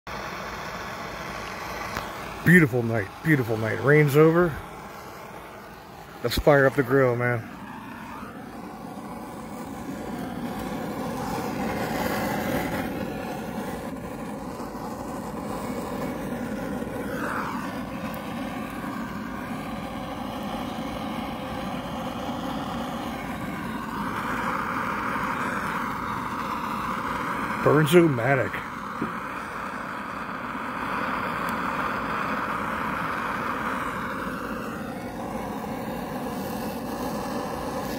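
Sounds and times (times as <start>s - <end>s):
gas torch hissing: 0.1s - 37.9s.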